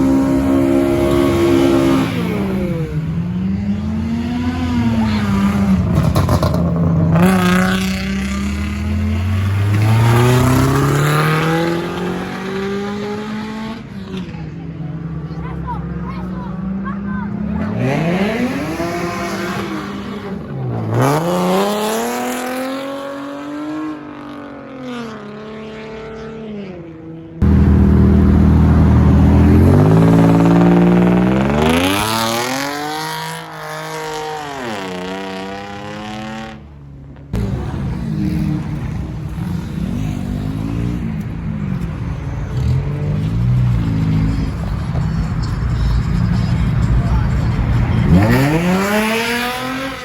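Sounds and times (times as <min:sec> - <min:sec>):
car engines revving hard: 0:00.0 - 0:50.0.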